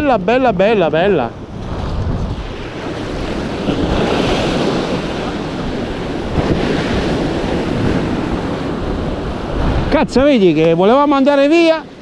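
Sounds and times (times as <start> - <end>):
waves breaking on rocks: 0.0 - 12.0
wind buffeting microphone: 0.0 - 12.0.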